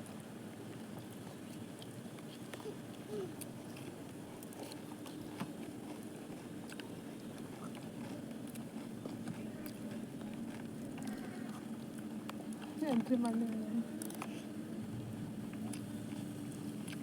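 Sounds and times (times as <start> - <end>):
chewing with small crunches: 0.0 - 17.0
low steady hum: 0.0 - 17.0.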